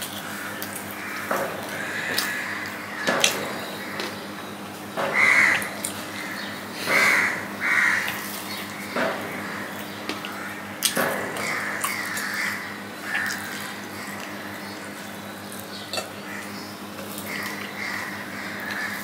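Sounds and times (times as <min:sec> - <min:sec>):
crows cawing: 0:00.0 - 0:04.2, 0:05.0 - 0:15.1, 0:16.1 - 0:19.0
steady electrical hum: 0:00.0 - 0:19.0.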